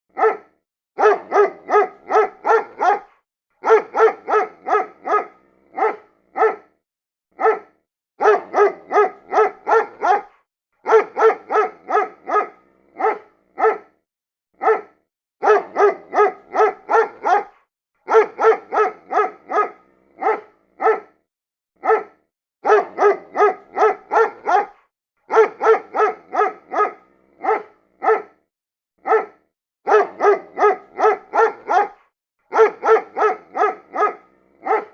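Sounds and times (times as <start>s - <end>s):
dog barking: 0.1s - 14.0s, 14.6s - 21.2s, 21.8s - 34.9s.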